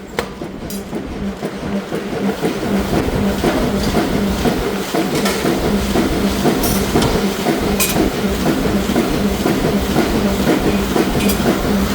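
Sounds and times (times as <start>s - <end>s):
machinery rumbling: 0.0s - 11.9s.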